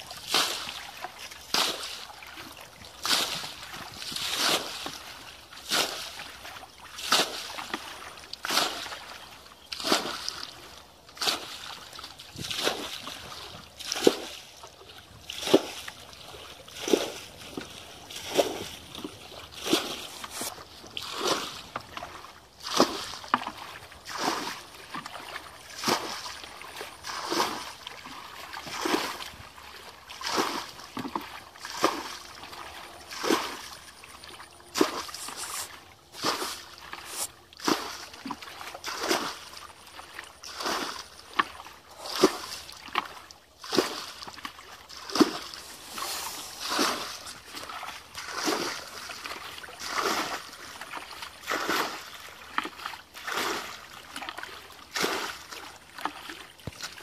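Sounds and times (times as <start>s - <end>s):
mud and water splashing: 0.0s - 57.0s.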